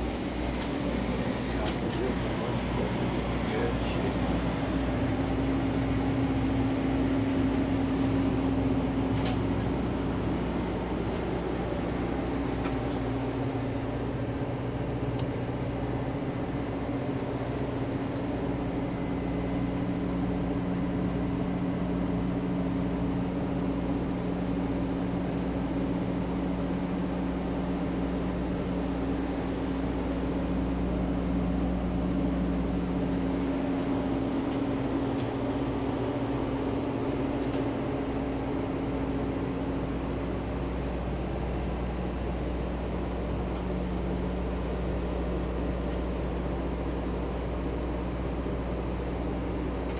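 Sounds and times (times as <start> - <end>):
machinery hum inside vehicle: 0.0 - 49.9.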